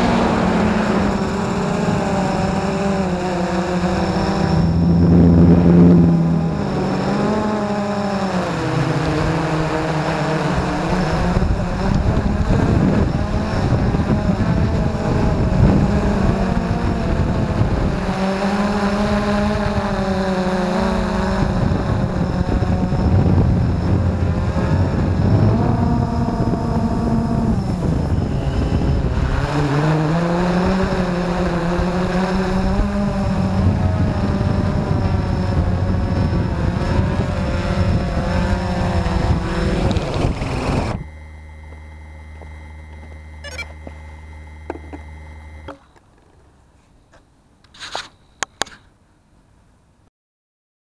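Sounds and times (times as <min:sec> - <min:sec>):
drone propellers whirring: 0:00.0 - 0:46.0.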